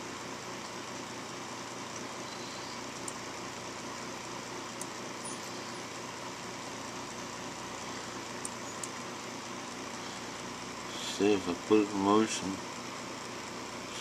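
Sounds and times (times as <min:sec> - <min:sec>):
room hiss: 0:00.0 - 0:14.0.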